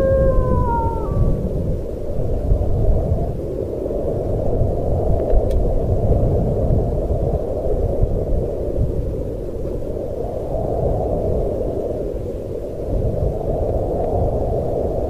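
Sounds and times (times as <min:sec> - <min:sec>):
deep rushing wind: 0:00.0 - 0:15.0.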